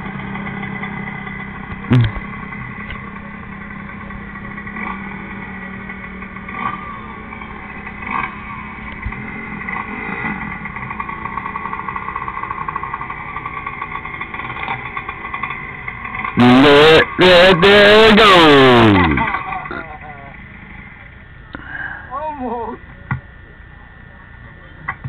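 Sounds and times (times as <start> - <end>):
dirt bike engine revving: 0.0 - 21.2.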